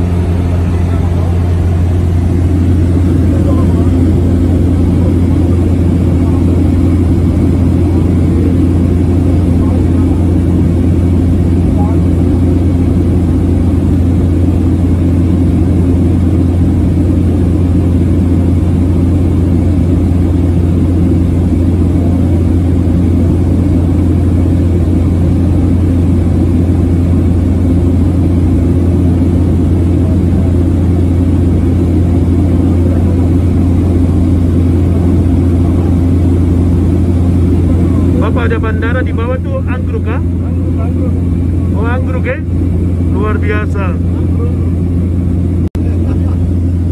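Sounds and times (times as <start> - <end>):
aircraft engine and propeller drone: 0.0 - 46.9.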